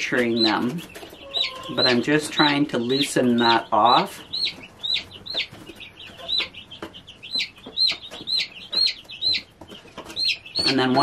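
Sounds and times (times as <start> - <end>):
chick peeping in distress: 0.0 - 11.0.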